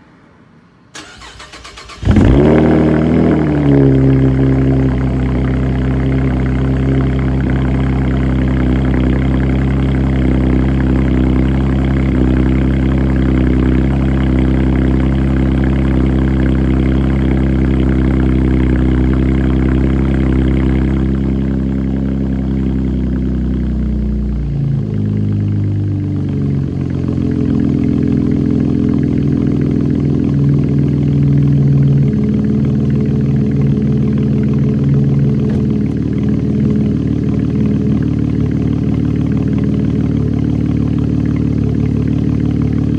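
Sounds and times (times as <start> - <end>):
car engine idling loudly: 2.0 - 42.9.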